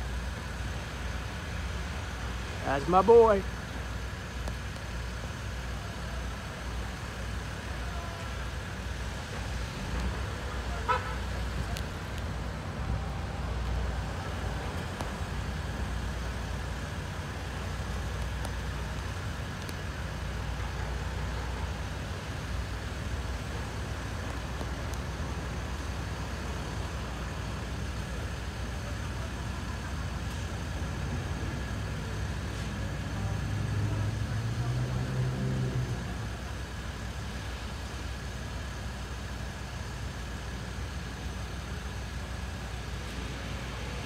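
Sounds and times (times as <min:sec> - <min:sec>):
low rumble with hiss: 0:00.0 - 0:44.0.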